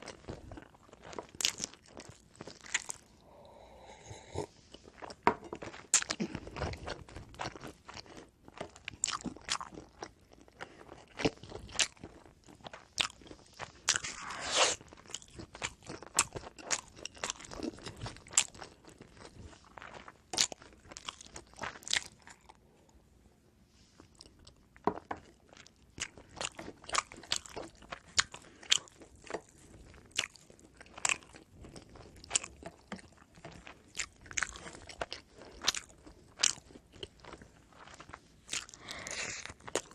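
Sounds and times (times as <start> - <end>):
chewing crunchy bread: 0.0 - 22.6, 23.9 - 39.9.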